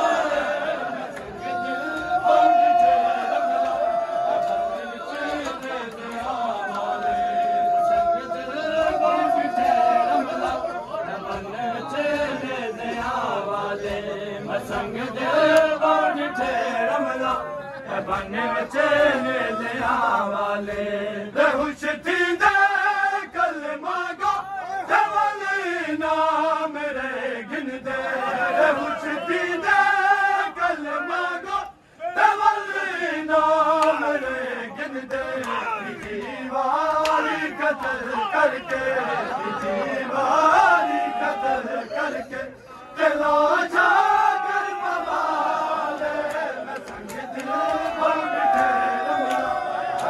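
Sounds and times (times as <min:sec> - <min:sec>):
crowd of men chanting: 0:00.0 - 0:50.0.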